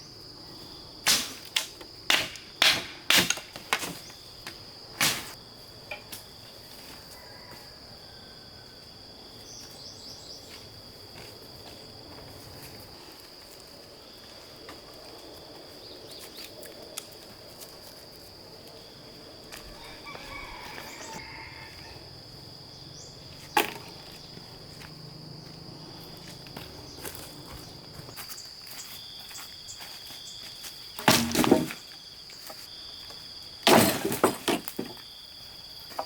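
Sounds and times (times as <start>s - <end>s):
crickets calling: 0.0s - 36.0s.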